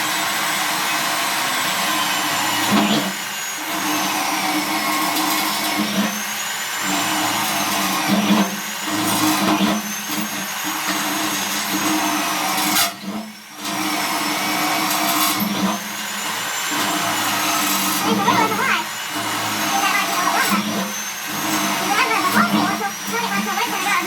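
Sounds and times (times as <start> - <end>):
small electric drill whining: 0.0 - 24.0.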